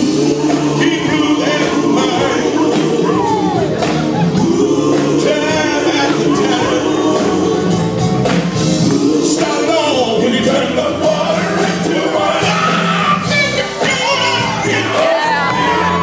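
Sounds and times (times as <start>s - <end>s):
instrumental backing: 0.0s - 16.0s
men singing gospel: 0.0s - 16.0s.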